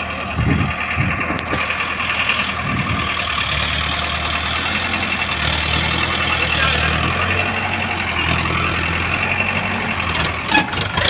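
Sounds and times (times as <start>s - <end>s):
diesel tractor engines running: 0.0s - 11.0s.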